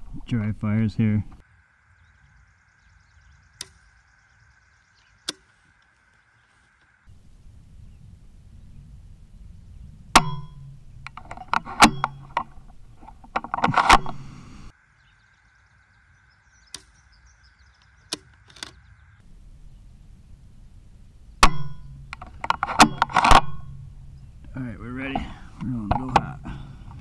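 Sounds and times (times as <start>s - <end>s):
faint steady whine: 0.4s - 27.0s.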